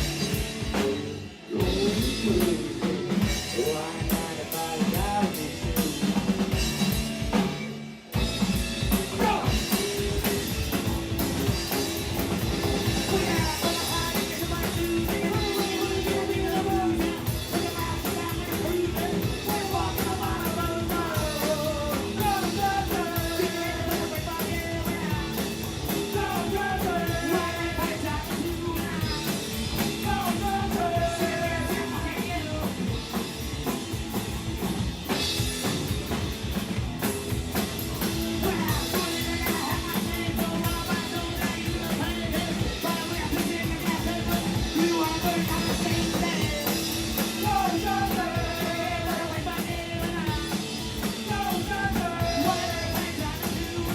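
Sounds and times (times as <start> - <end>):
person singing: 0.0 - 6.2, 9.1 - 11.0, 12.6 - 33.2, 38.4 - 53.9
live rock band playing: 0.0 - 53.9.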